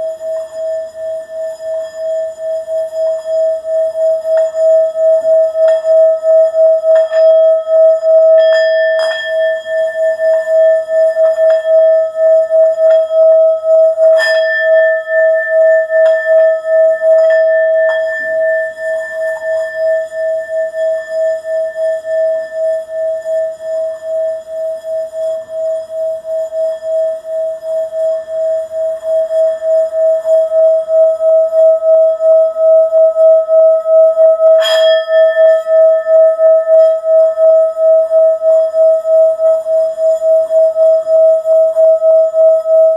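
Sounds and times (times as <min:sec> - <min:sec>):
singing bowl ringing: 0:00.0 - 0:42.9.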